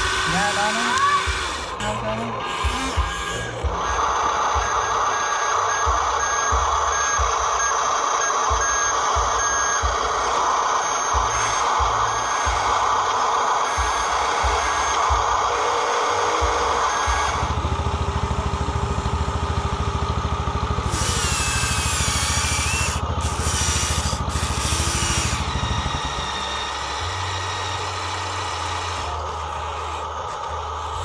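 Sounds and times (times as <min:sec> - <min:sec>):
low mechanical hum: 0:00.0 - 0:31.0
wavering motor whine: 0:00.0 - 0:31.0.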